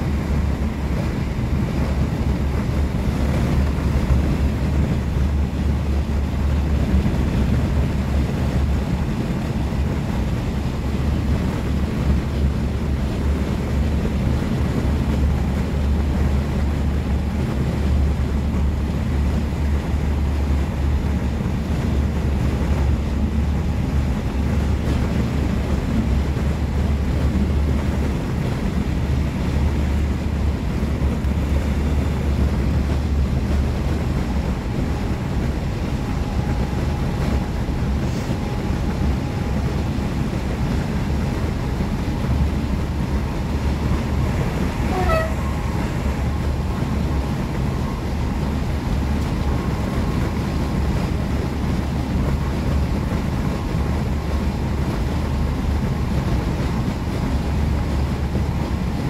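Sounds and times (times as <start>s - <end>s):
train coach rumbling in motion: 0.0s - 59.0s.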